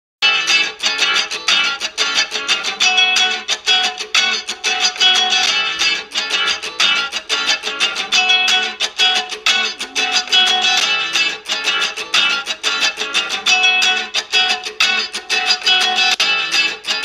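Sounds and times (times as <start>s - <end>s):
plucked string instrument tune: 0.2s - 17.0s.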